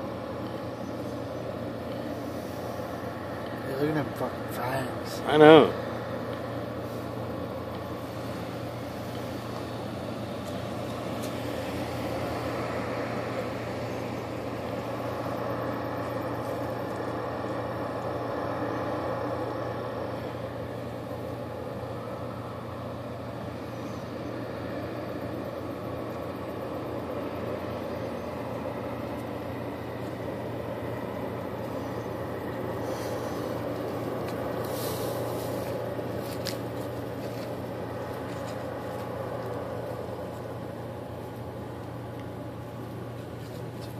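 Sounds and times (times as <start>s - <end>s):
constant low hum: 0.0s - 43.9s
mechanical rumble: 0.0s - 43.9s.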